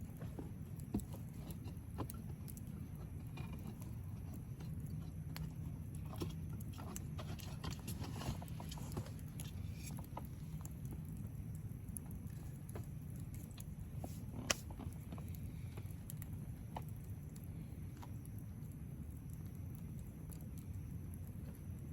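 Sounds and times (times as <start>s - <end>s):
low steady rumble: 0.0s - 21.9s
wood fire crackling and popping: 0.0s - 21.9s.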